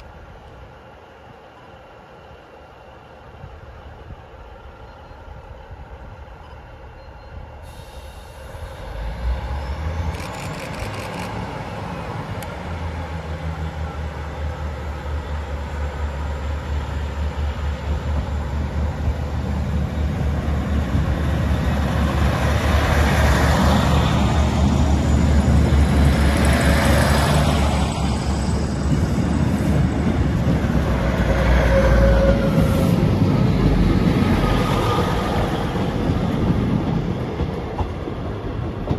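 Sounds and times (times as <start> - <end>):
diesel train engines droning: 0.0 - 38.9
train coaches rumbling past: 0.0 - 38.9.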